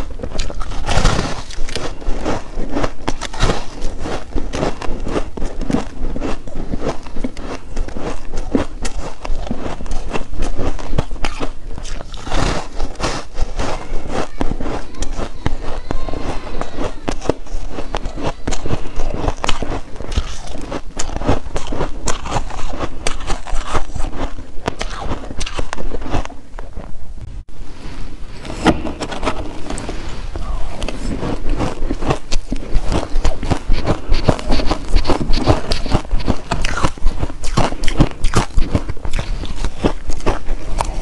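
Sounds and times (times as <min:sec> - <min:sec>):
crunching ice flakes: 0:00.0 - 0:26.4, 0:30.4 - 0:41.0.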